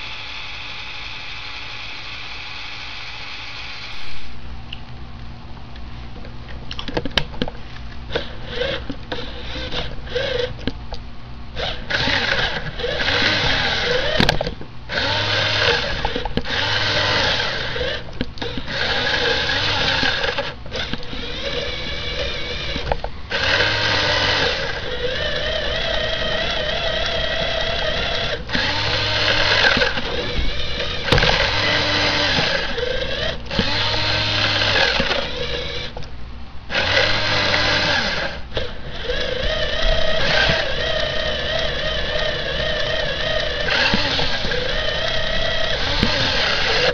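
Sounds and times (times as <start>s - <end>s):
electric motor and gears whirring: 0.0s - 4.4s, 6.7s - 46.9s.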